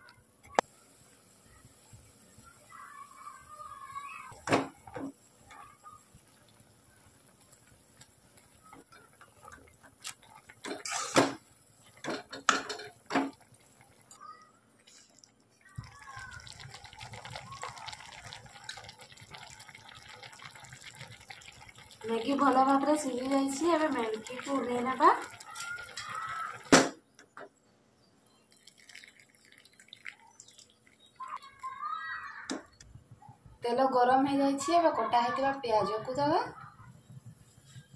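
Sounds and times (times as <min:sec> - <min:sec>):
water dripping and trickling: 0:00.0 - 0:26.8, 0:28.4 - 0:32.8.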